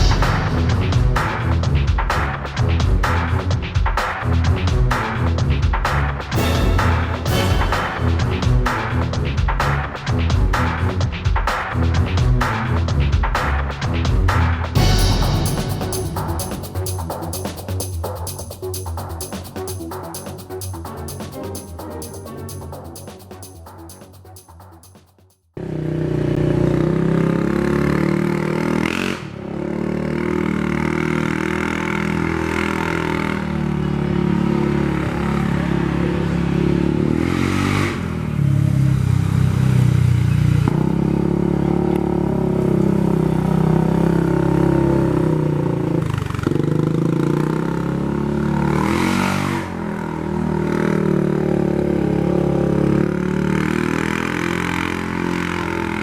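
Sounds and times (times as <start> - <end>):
engine revving: 0.0 - 23.3, 25.6 - 56.0.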